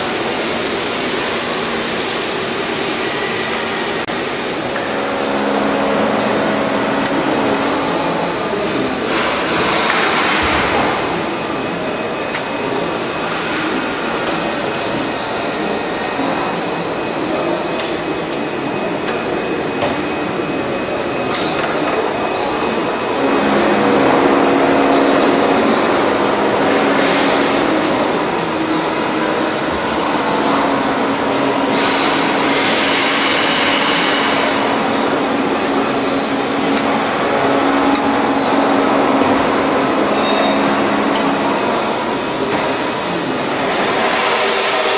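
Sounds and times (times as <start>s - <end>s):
electric motor hum and whine: 0.0s - 44.9s.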